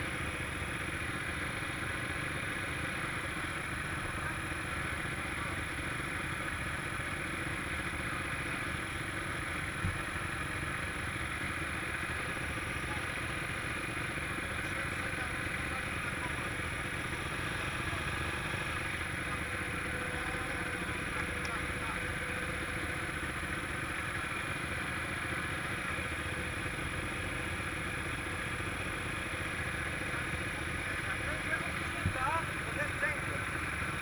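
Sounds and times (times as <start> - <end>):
quad bike engine idling: 0.0 - 34.0.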